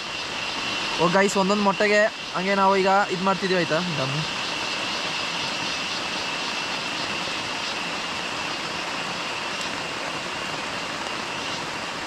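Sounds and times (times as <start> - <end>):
heavy rain pouring: 0.0 - 12.0
high-pitched whine: 0.0 - 12.0.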